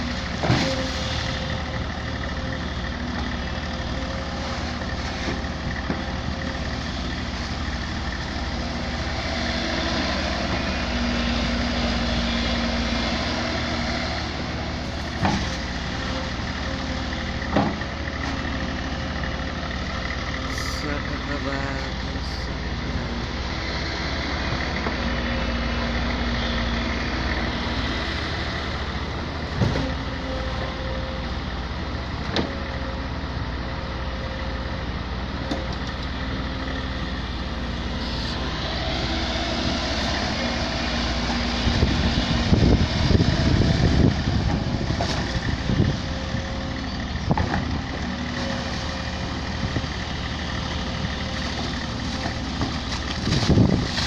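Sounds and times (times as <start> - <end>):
excavator diesel engine running: 0.0 - 54.0
heavy low rumbling: 0.0 - 54.0.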